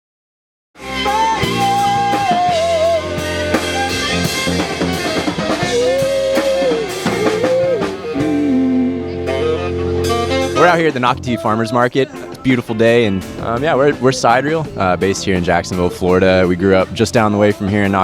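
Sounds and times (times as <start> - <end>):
rock band playing: 0.8 - 18.0.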